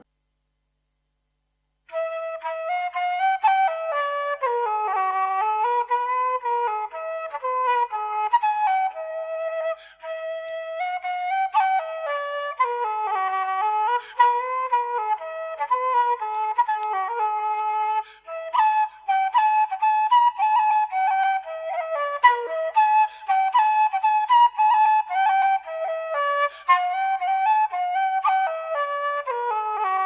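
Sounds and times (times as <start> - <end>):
flute playing a tune: 1.9 - 30.0.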